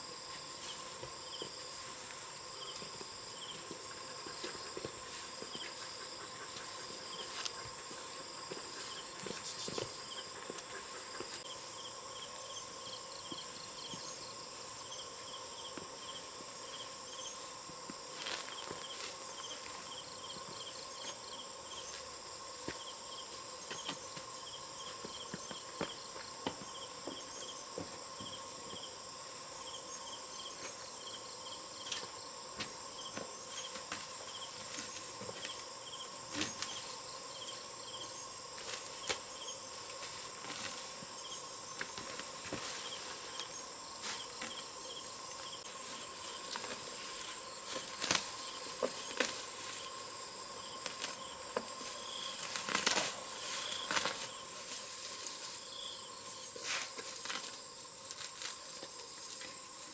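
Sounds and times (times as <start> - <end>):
high-pitched insect drones: 0.0 - 59.9
insect chirps: 0.0 - 59.9.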